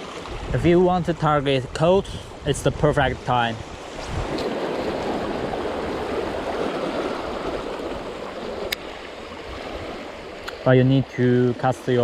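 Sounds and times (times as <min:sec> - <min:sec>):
seawater washing on shore: 0:00.0 - 0:12.0.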